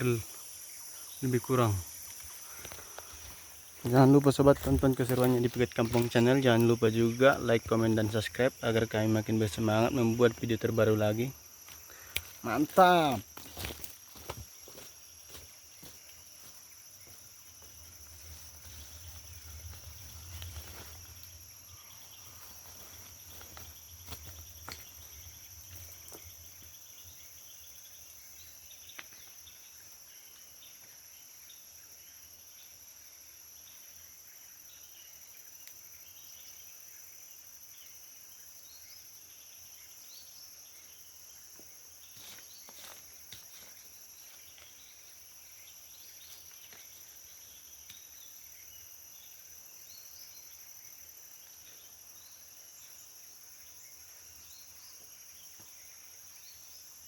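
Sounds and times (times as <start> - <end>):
forest insects droning: 0.0 - 57.0.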